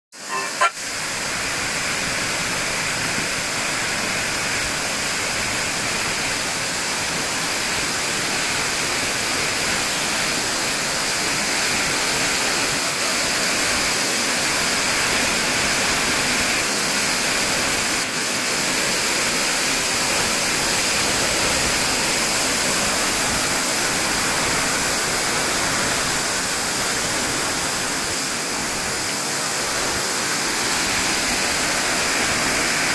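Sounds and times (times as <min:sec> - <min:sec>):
waterfall crashing into pool: 0:00.2 - 0:32.9.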